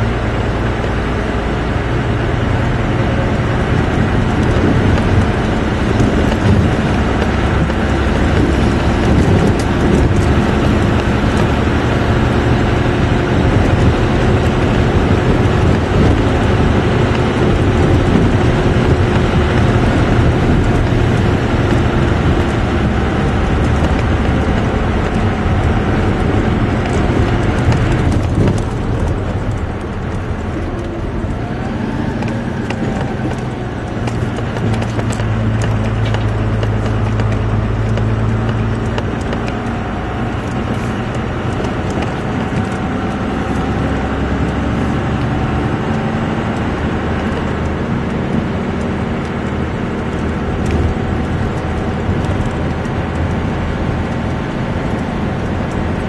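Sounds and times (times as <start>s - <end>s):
diesel engine pulling under load: 0.0s - 56.0s
road noise: 0.0s - 56.0s.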